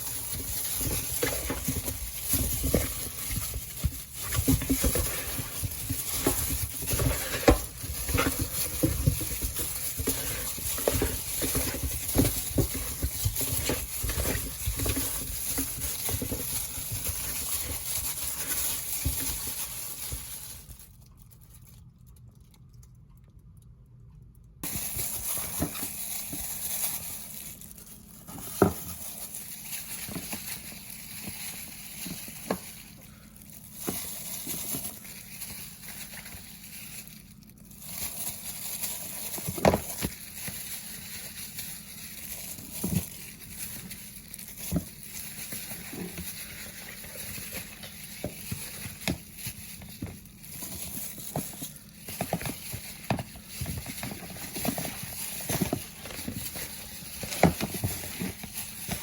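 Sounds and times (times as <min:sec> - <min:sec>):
wet pattering of food stirred: 0:00.0 - 0:23.6, 0:24.6 - 0:59.0.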